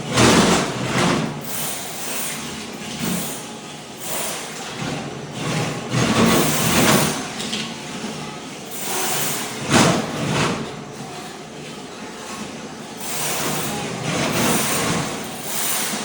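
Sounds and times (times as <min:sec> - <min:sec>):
floor scraper scraping mortar: 0:00.0 - 0:07.4, 0:08.7 - 0:10.7, 0:12.4 - 0:16.0.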